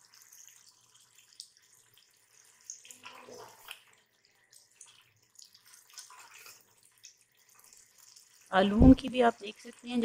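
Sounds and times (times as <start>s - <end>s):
faint sizzle of frying: 0.0s - 10.0s.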